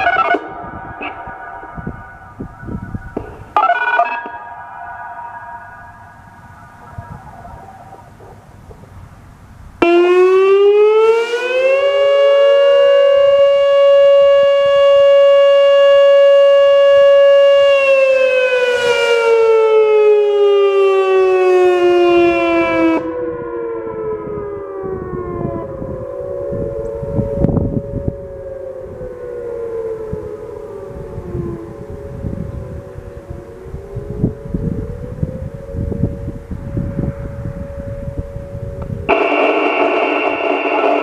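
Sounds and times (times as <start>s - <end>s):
fainter siren tones: 0.0s - 41.0s
outdoor warning siren wailing: 0.0s - 41.0s.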